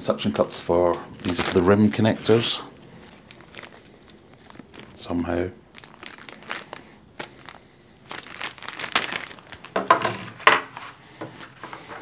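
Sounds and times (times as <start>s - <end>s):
paper and plastic packaging rustling: 1.0s - 12.0s.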